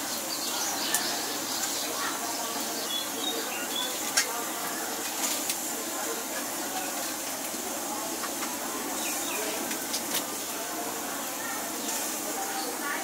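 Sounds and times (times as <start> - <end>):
outdoor background hiss: 0.0 - 13.0
small birds chirping: 0.0 - 13.0.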